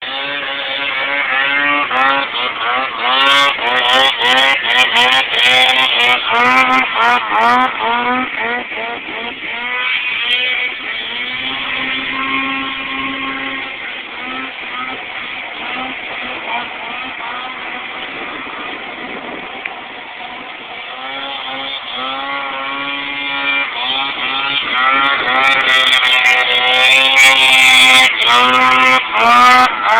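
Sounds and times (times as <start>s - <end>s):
snowmobile engine revving: 0.0s - 29.9s.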